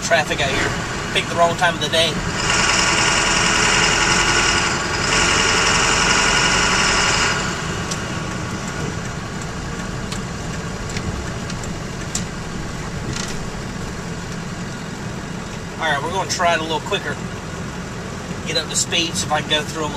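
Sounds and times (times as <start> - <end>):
diesel truck engine running: 0.0 - 19.9.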